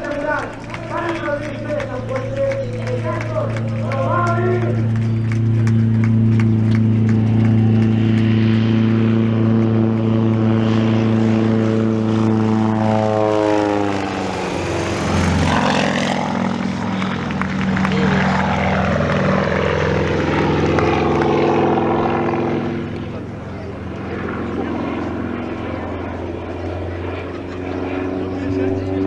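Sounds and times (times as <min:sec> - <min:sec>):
propeller plane engine droning: 0:00.0 - 0:29.0.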